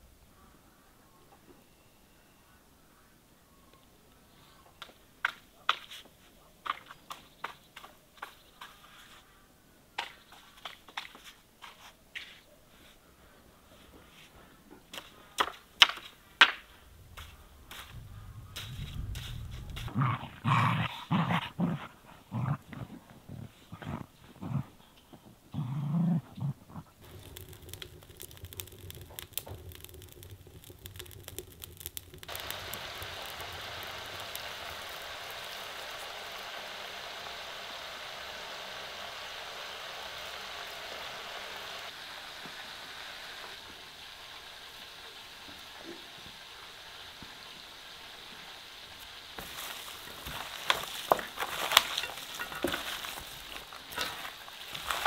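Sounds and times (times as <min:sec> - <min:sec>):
steady soft hiss: 0:00.0 - 0:19.9, 0:26.9 - 0:55.0.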